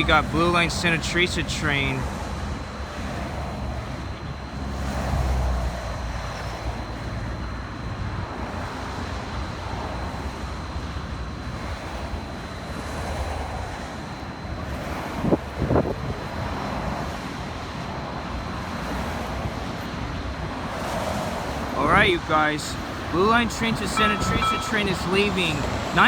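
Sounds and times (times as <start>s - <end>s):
light rail train running: 0.0s - 15.5s, 17.9s - 26.0s.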